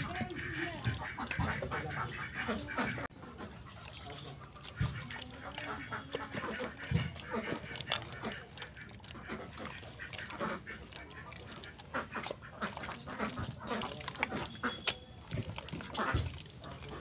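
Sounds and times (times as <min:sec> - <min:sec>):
meat squeezed by hand wet squelches: 0:00.0 - 0:17.0.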